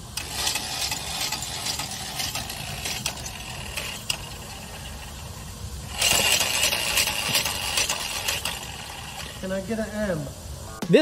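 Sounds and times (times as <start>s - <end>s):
metallic clicks of spinning wheel hub: 0.1s - 9.4s.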